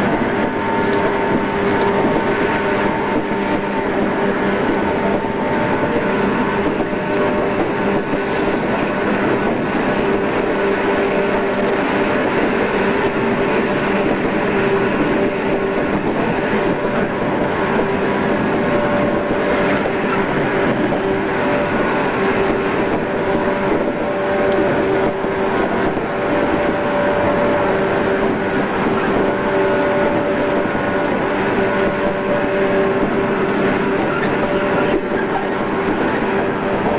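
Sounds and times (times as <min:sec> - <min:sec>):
train motor and gear hum: 0:00.0 - 0:36.9
wheels rumbling on rail: 0:00.0 - 0:36.9.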